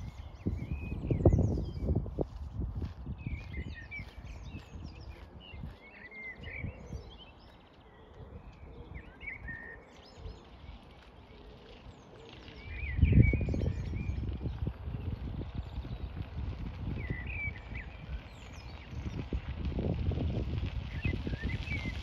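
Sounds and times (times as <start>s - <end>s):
songbirds chirping and trilling: 0.0s - 22.0s
wind rumble on microphone: 0.0s - 22.0s.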